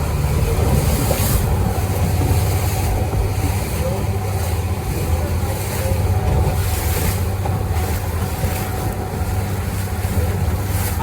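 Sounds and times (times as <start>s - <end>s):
motorboat engine running: 0.0s - 11.0s
wind on microphone: 0.0s - 11.0s.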